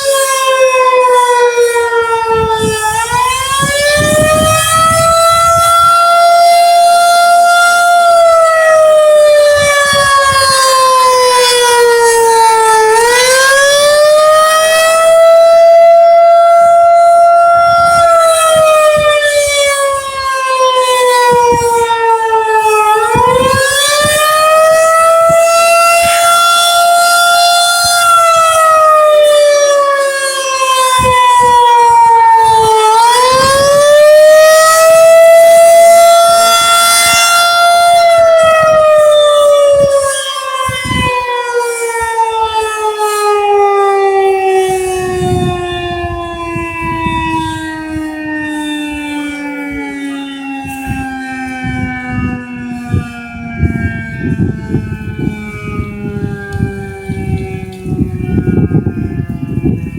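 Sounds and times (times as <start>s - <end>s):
warning siren wailing: 0.0s - 59.9s.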